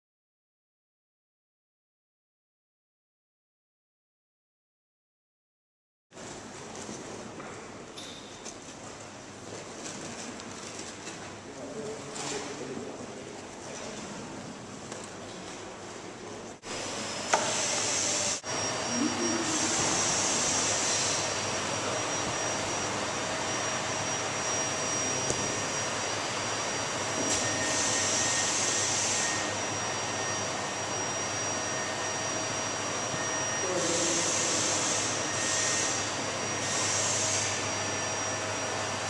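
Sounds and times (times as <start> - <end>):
vacuum pump drone with whine: 6.2 - 39.0.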